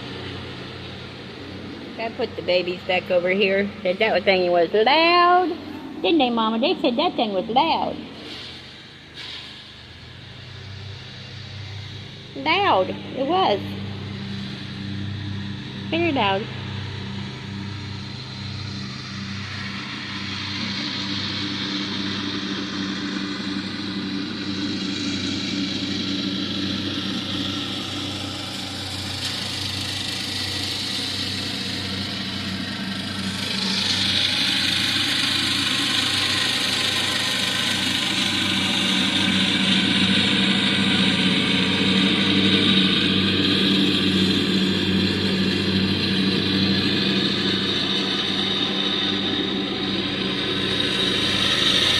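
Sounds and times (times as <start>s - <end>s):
lawnmower engine running: 0.0s - 51.9s.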